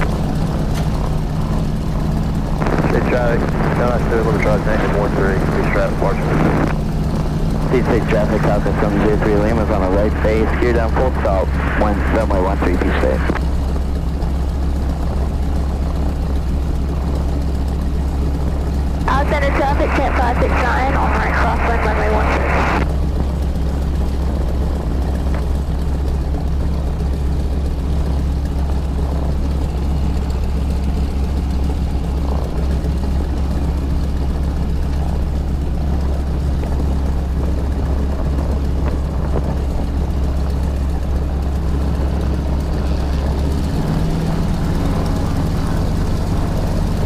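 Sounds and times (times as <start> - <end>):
radial aircraft engine droning: 0.0 - 47.0.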